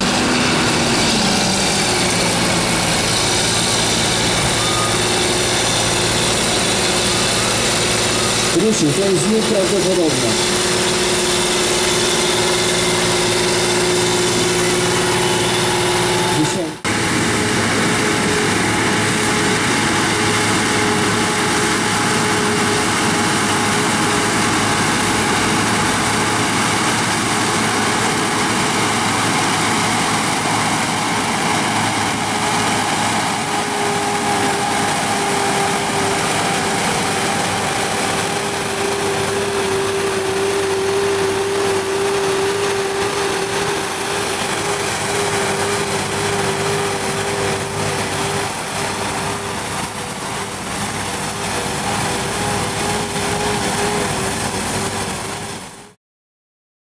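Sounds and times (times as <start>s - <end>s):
constant high whine: 0.0s - 56.0s
tractor engine running hard: 0.0s - 56.0s.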